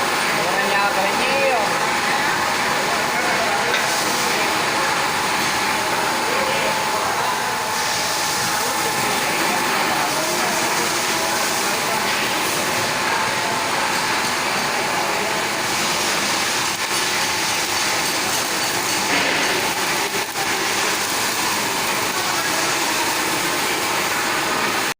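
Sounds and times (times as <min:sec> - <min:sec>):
loud machine hiss: 0:00.0 - 0:24.9.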